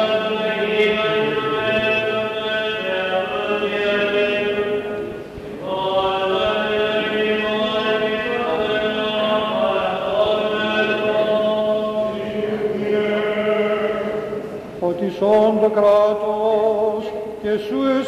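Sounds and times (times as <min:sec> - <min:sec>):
liturgical chant: 0:00.0 - 0:18.0.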